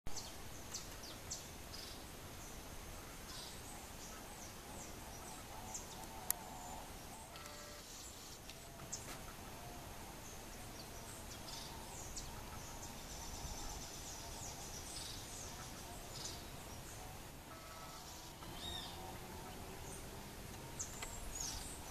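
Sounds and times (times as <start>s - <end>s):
small birds chirping: 0.1s - 21.9s
steady hiss: 0.1s - 21.9s.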